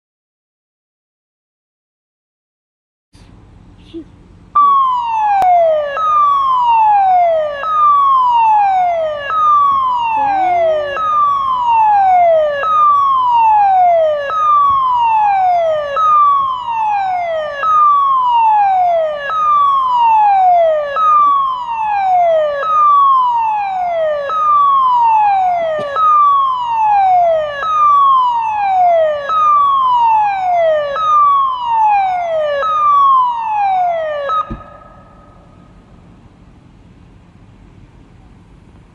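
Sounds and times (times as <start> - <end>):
warning siren falling tone: 4.5 - 37.1.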